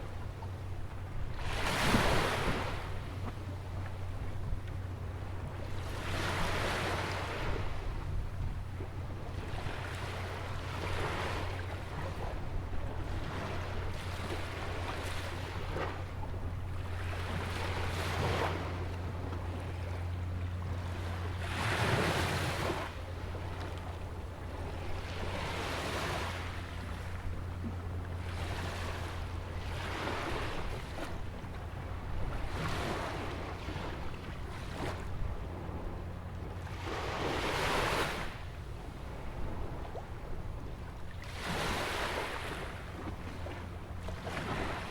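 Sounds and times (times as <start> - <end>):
small waves breaking on shore: 0.0 - 44.9
wind rumble on microphone: 0.0 - 44.9.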